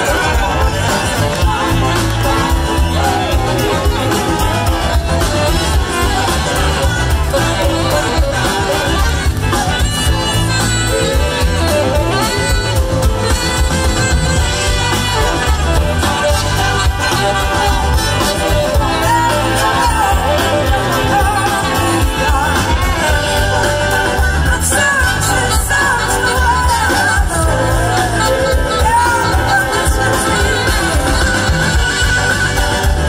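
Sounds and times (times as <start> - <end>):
live rock band with horns: 0.0 - 33.0
saxophone lead lines: 0.0 - 33.0.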